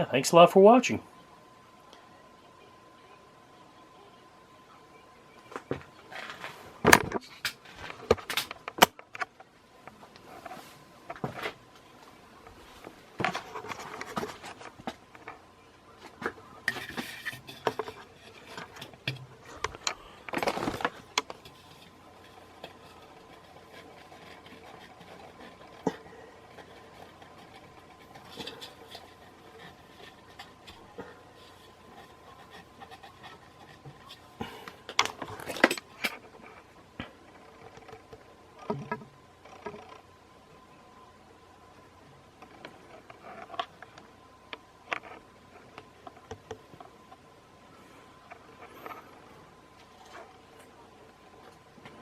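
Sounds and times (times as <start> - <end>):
ceiling fan humming: 0.0 - 52.0.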